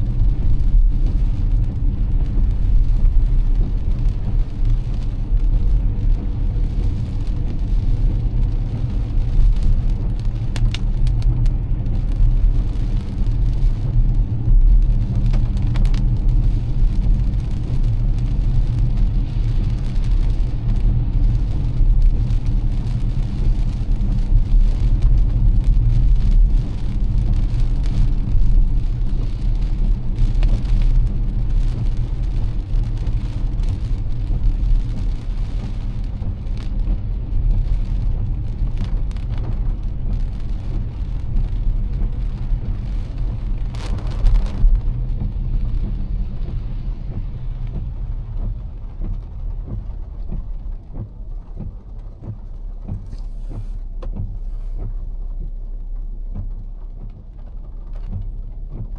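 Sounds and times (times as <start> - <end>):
heavy rain: 0.0 - 58.9
road and engine rumble: 0.0 - 58.9
tyres hissing on wet pavement: 0.4 - 55.2.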